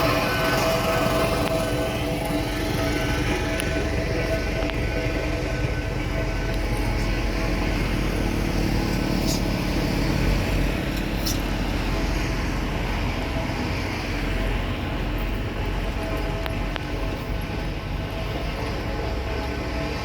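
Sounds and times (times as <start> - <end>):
road roller running: 0.0 - 20.0.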